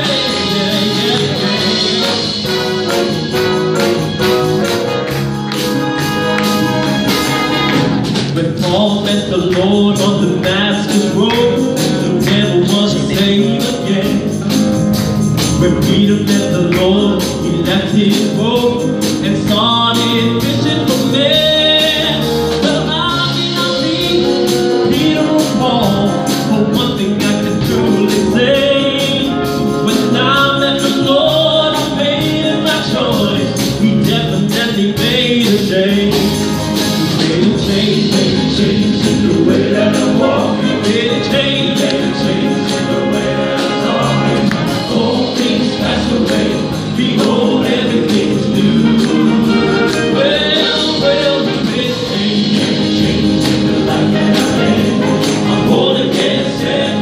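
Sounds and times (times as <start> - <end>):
male gospel choir singing: 0.0 - 57.0
percussive beat: 0.0 - 57.0.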